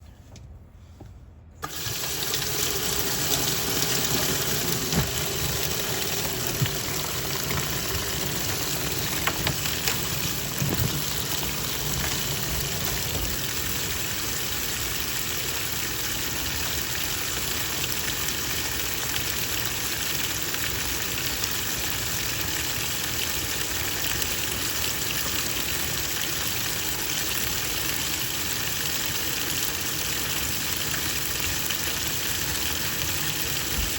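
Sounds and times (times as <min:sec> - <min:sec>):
washing machine water sloshing: 0:01.6 - 0:33.9.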